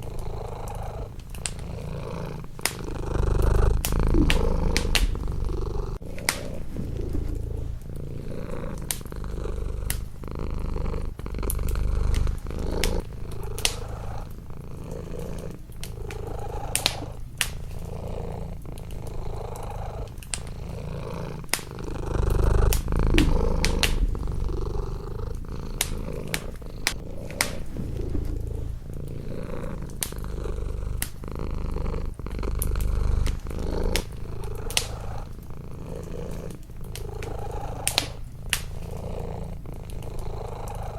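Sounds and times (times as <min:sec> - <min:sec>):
wood fire crackling: 0:00.0 - 0:40.7
cat purring: 0:00.0 - 0:40.9.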